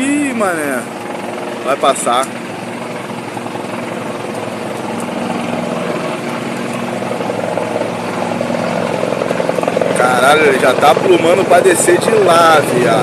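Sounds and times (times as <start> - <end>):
helicopter rotor chop: 0.0 - 13.0
helicopter turbine hum: 0.0 - 13.0.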